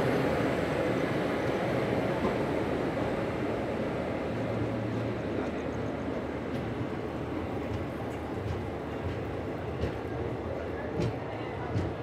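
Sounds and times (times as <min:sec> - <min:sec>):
passenger train rumble: 0:00.0 - 0:12.0.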